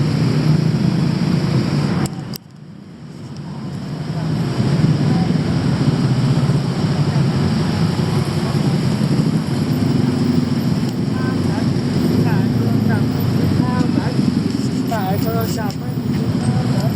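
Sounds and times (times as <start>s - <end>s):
city street traffic rumble: 0.0s - 16.9s.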